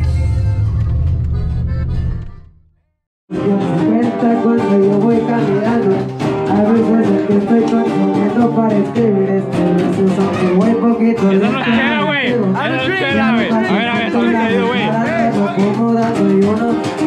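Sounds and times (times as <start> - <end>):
man singing into a microphone: 3.3 - 17.0
plucked string instruments: 3.3 - 17.0
strummed acoustic guitars: 3.3 - 17.0.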